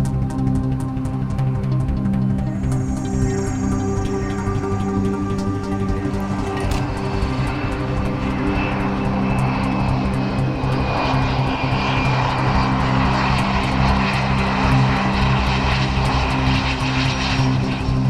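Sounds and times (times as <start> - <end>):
airplane engine running: 0.0 - 18.0
faint high whine: 2.5 - 18.0.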